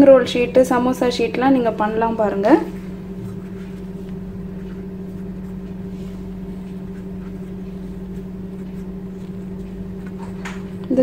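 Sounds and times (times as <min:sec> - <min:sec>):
low electric hum: 0:00.0 - 0:11.0.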